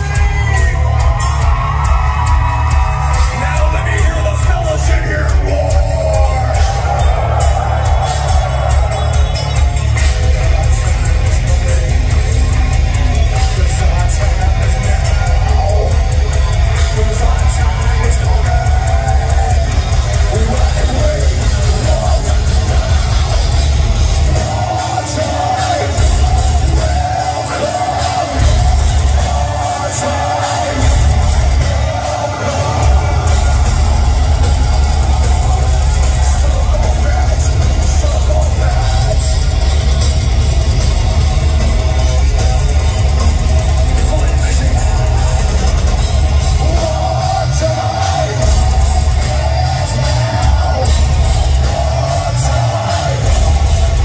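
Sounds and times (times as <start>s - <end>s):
live heavy metal band: 0.0s - 54.0s.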